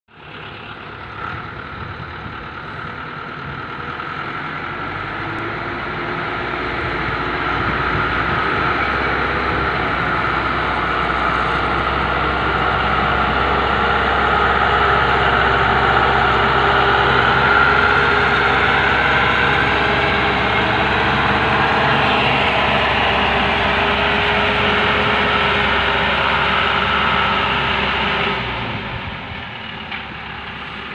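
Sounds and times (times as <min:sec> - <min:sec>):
diesel truck engine: 0:00.0 - 0:30.9.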